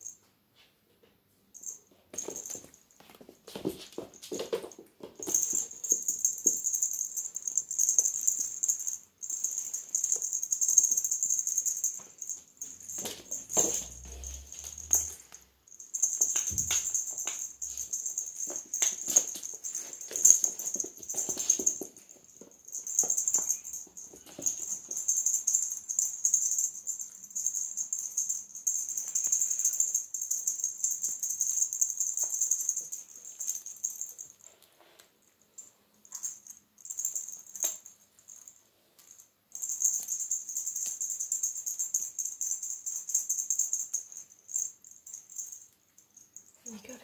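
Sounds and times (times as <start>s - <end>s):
cat toy jingling: 1.6s - 2.8s, 5.1s - 34.5s, 35.6s - 47.0s.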